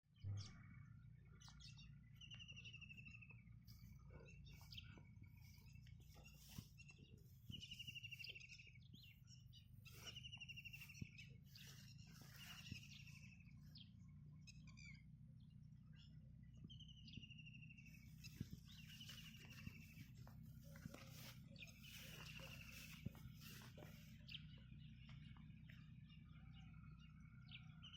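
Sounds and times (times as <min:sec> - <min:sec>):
low steady hum: 0:00.2 - 0:27.9.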